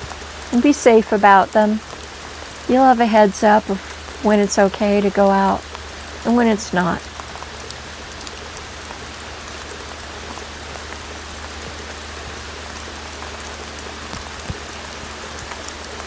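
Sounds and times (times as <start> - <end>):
close raindrops ticking: 0.0 - 16.0
steady rain: 0.0 - 16.0.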